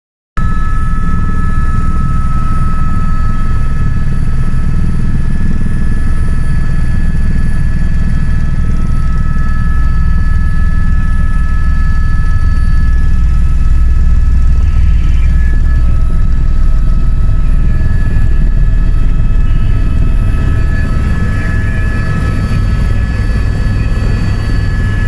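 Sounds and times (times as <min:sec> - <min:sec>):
helicopter engine whine: 0:00.4 - 0:25.0
helicopter rotor rumble: 0:00.4 - 0:25.0.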